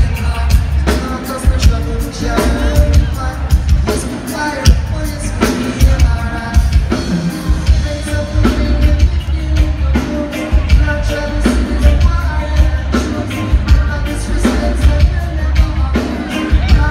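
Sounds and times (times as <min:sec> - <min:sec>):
live reggae band playing: 0:00.0 - 0:16.9
person singing: 0:00.0 - 0:16.9.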